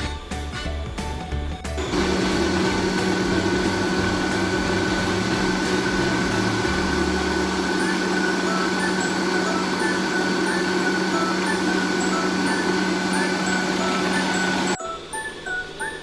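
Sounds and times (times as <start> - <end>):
electric mixer motor humming: 1.8 - 14.8.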